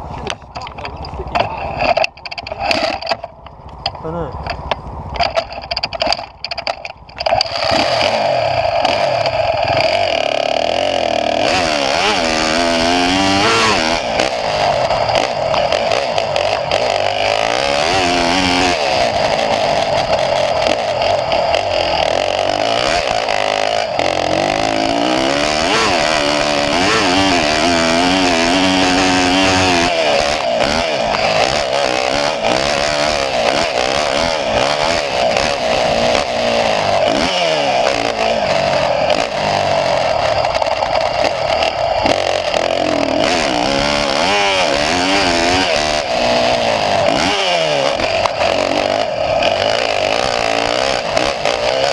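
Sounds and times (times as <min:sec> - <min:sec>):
small engine revving: 0:07.2 - 0:51.9.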